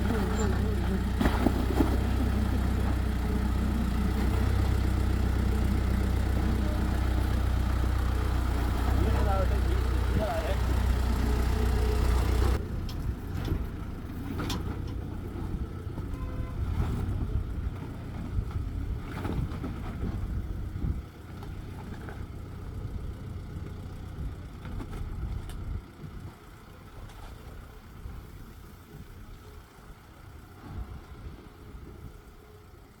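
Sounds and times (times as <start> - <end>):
off-road vehicle engine running: 0.0 - 33.0.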